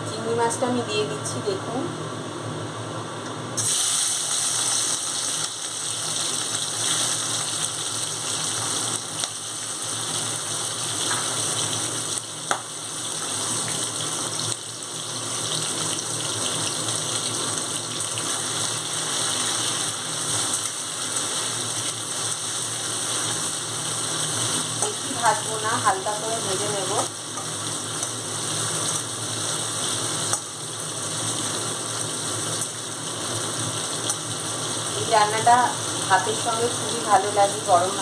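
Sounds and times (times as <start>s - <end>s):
prawns sizzling in hot oil: 3.6s - 38.0s.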